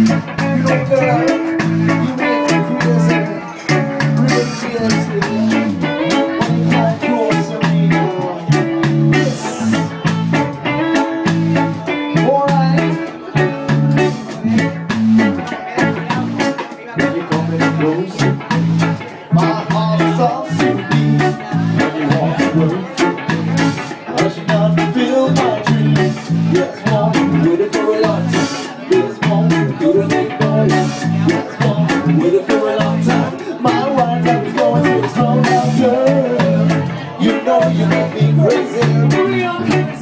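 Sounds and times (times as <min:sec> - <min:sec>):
live reggae band playing: 0:00.0 - 0:40.0.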